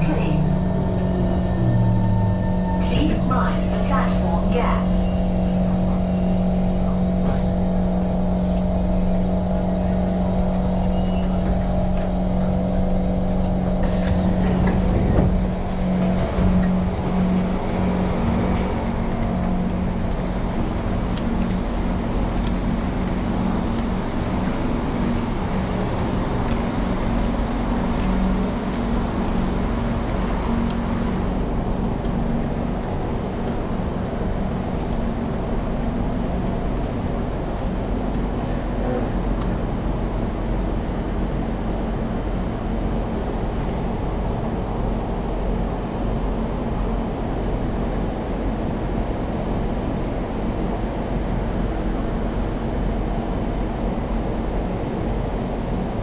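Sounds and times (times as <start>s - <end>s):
train running hum and rumble: 0.0s - 56.0s.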